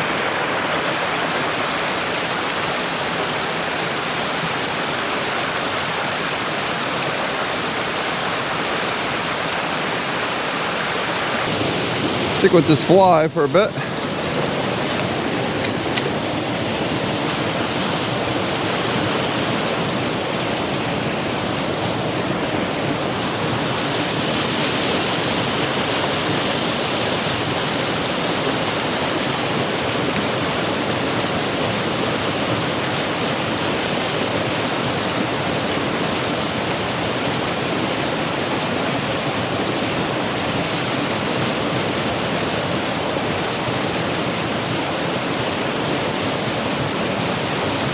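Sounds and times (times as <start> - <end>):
creek rushing: 0.0 - 47.9.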